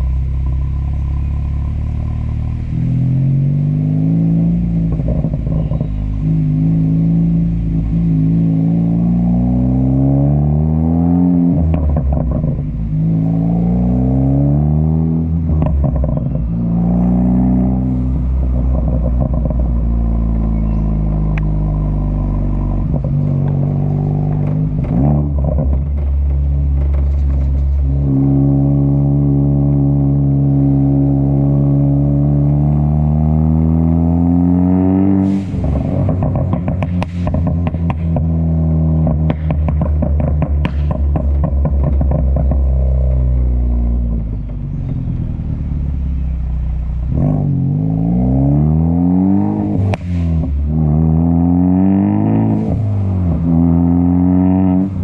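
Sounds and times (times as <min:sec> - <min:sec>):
car engine accelerating: 0:00.0 - 0:55.0
exhaust crackles: 0:00.0 - 0:55.0.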